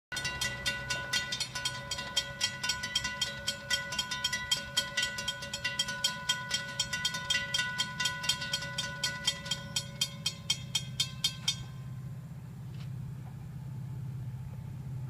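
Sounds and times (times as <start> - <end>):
railroad crossing bell ringing: 0.1 - 12.4.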